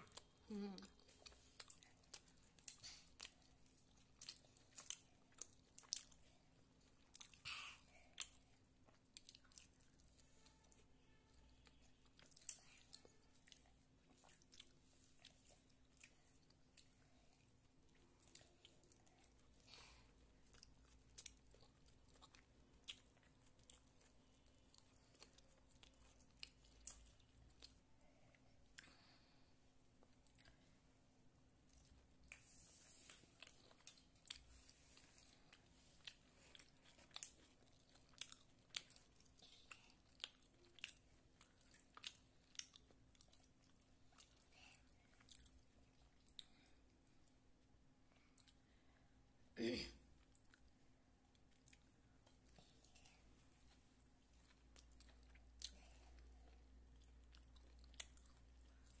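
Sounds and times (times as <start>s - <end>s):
child chewing: 0.0s - 59.0s.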